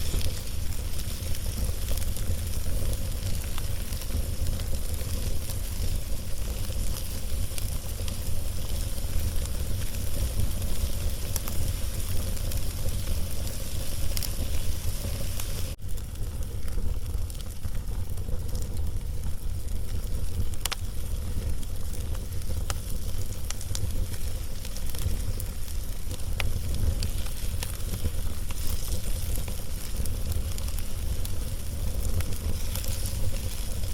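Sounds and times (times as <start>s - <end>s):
log fire crackling and popping: 0.0s - 33.9s.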